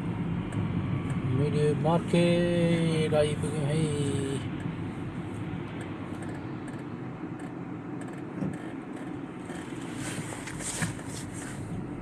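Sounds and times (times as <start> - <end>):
low rumble of traffic: 0.0 - 12.0.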